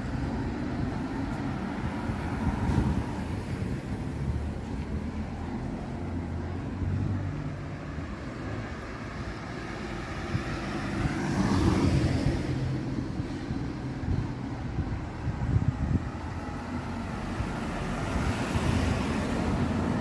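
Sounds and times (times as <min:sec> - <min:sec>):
vehicle passing close by: 0:00.0 - 0:20.0.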